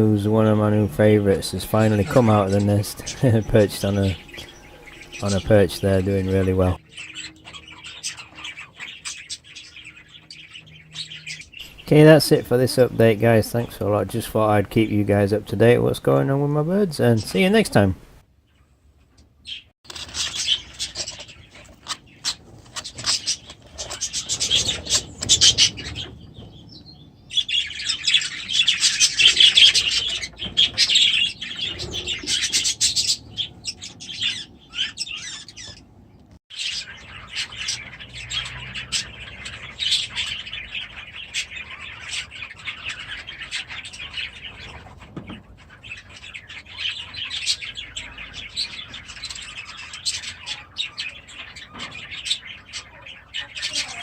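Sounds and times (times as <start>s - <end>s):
budgerigars chattering and chirping: 0.0s - 18.6s, 19.4s - 54.0s.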